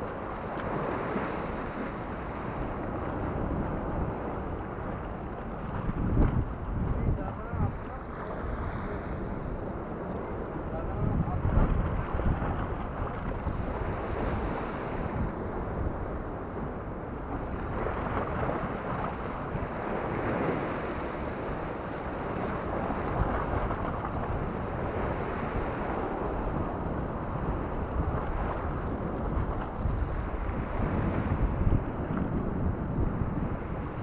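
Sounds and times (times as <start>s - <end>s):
sea waves washing against rocks: 0.0s - 9.2s, 10.6s - 16.2s, 16.8s - 34.0s
wind rumbling on microphone: 0.0s - 34.0s.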